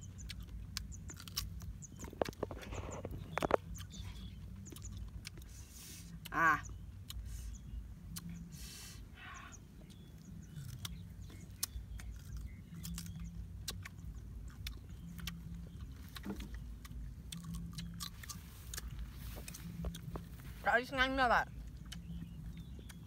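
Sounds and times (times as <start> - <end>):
person chewing wetly: 0.0 - 8.5, 9.8 - 20.5, 21.5 - 23.0
low rumble with hum: 0.0 - 23.0.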